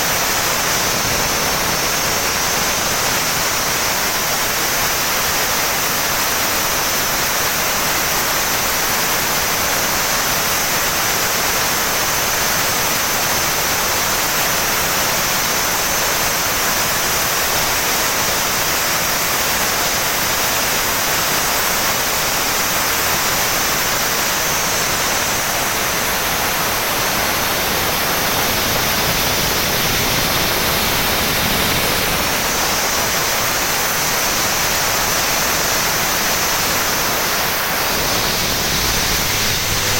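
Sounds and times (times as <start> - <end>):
steam turbine hissing: 0.0 - 39.9.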